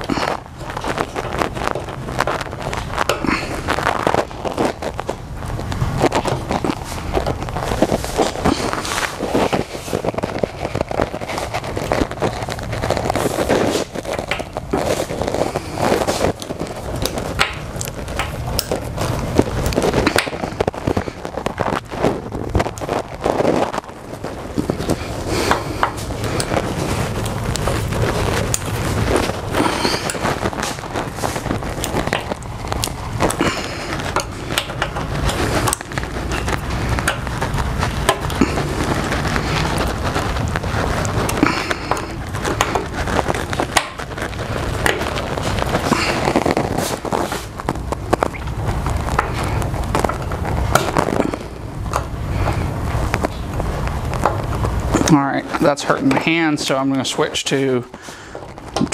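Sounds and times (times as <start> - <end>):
low background noise: 0.0 - 58.9.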